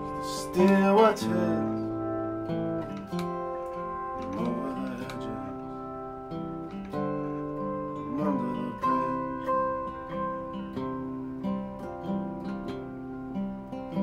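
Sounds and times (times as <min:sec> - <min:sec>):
guitar picking and strumming: 0:00.0 - 0:14.0.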